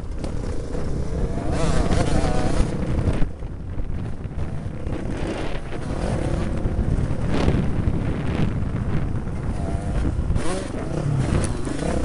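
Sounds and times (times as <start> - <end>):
motocross bike engine: 0.0 - 12.0
wind rumble on microphone: 0.0 - 12.0.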